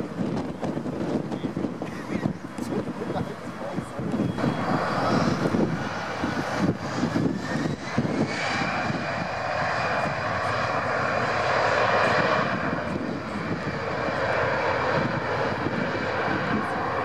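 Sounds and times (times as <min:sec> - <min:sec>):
high engine whine: 0:00.0 - 0:17.0
jet engines rushing hiss: 0:00.0 - 0:17.0.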